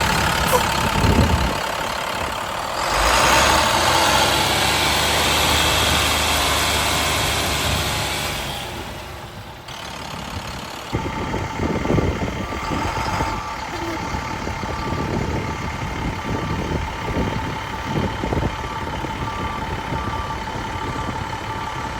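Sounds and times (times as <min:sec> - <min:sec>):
diesel truck engine idling: 0:00.0 - 0:21.9.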